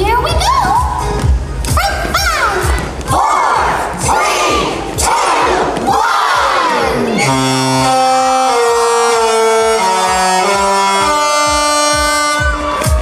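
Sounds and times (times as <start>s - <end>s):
steady beat: 0.0s - 13.0s
reedy melody: 1.4s - 13.0s.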